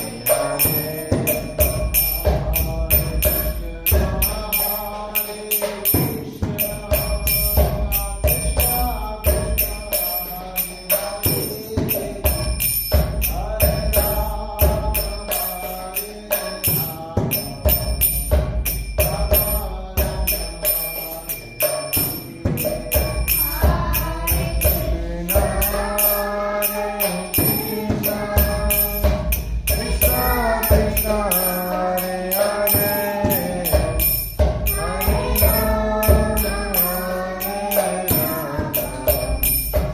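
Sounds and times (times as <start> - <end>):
jingling metal percussion: 0.0 - 39.9
voices chanting a mantra: 0.0 - 39.9.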